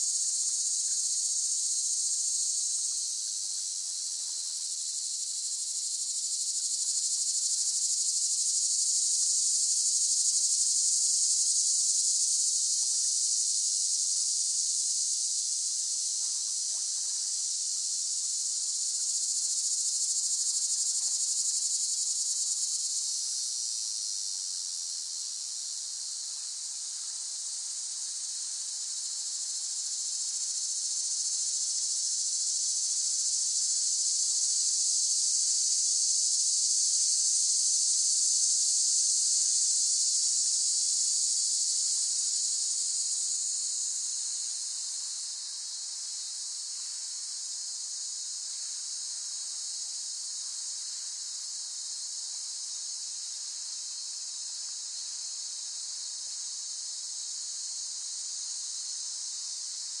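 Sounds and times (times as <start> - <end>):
cicadas buzzing: 0.0 - 60.0.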